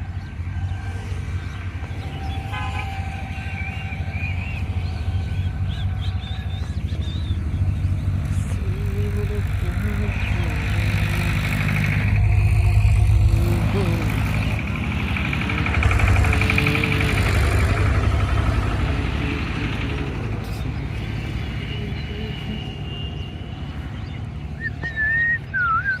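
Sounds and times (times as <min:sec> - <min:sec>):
engine pulsing rumble: 0:00.0 - 0:26.0.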